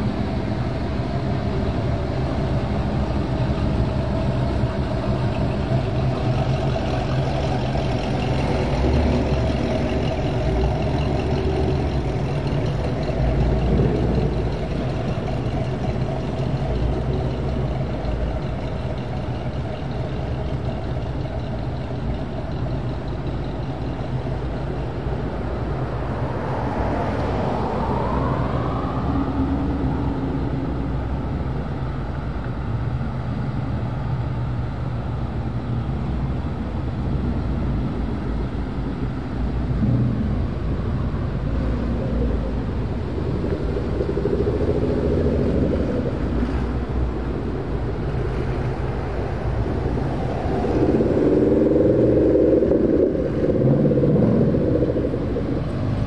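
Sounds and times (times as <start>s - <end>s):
car engines rumbling past: 0.0s - 56.0s
engine revving with whine: 0.0s - 56.0s.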